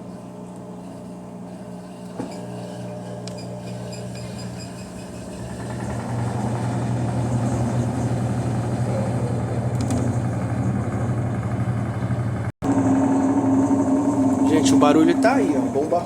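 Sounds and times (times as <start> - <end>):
drain pump hoarse hum: 0.0 - 16.0.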